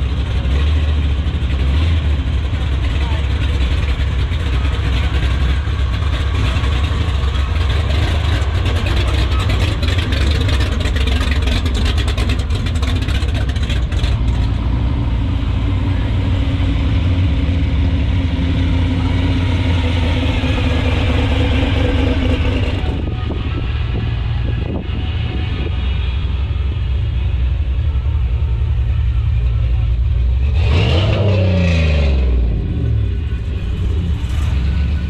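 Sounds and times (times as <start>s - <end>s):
car engines rumbling passing: 0.0s - 35.0s.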